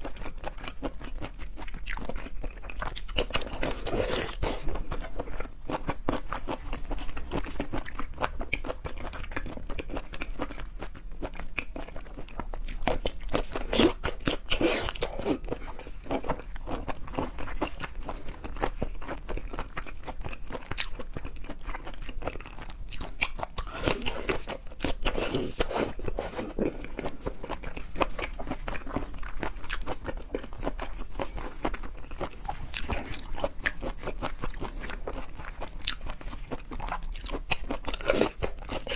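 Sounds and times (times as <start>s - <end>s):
crunchy bites and wet chewing: 0.1s - 38.9s.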